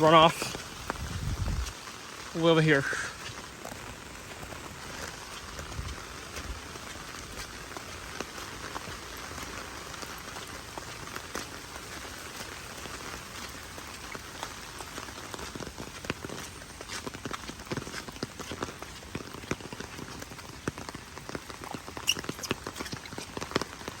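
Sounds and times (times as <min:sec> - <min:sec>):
heavy rain: 0:00.0 - 0:24.0
raindrops striking close by: 0:00.0 - 0:24.0.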